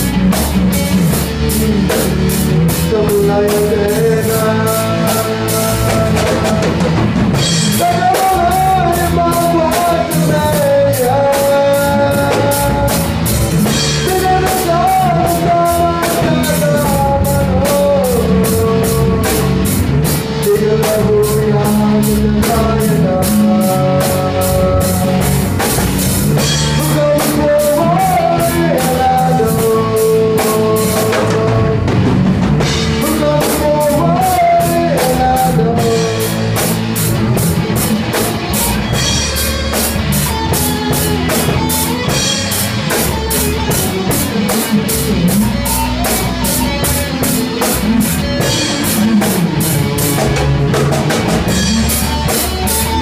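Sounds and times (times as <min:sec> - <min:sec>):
bass guitar: 0:00.0 - 0:53.0
drum kit with cymbal beat: 0:00.0 - 0:53.0
electric guitars: 0:00.0 - 0:53.0.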